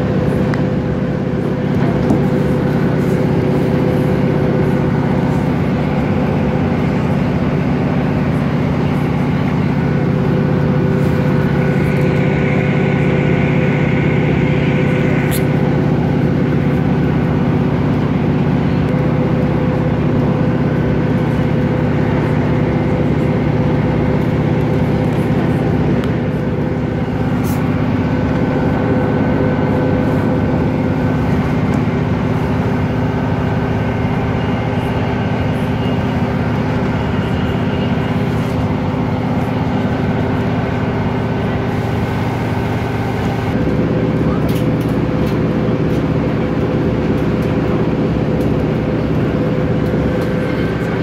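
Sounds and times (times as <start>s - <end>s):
constant low hum: 0.0s - 51.0s
train wheels rumbling on rails: 0.0s - 51.0s.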